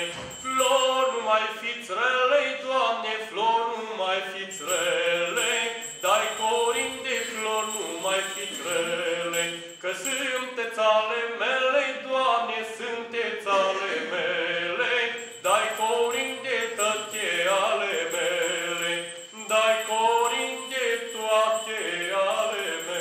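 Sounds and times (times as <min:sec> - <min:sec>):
man singing a carol: 0:00.0 - 0:23.0.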